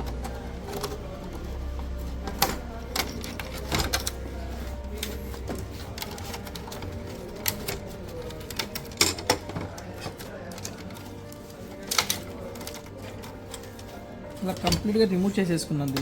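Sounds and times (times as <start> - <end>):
clicks and knocks of parts handled: 0.0 - 15.0.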